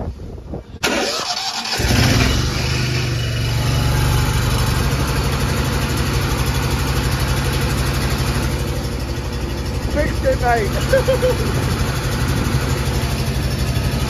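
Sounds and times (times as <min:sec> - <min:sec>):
small petrol engine starting and running: 0:00.8 - 0:14.0.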